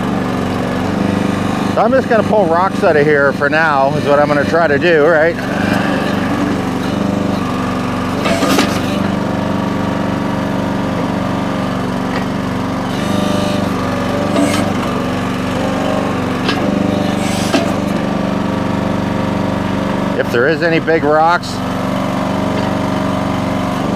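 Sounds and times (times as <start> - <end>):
small gas engine running: 0.0 - 23.9
digger scrapes and clunks: 0.2 - 19.0, 21.7 - 23.9.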